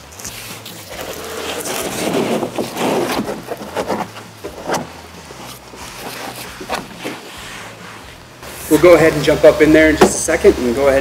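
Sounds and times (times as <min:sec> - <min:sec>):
mat rustling and scraping: 0:00.0 - 0:10.4.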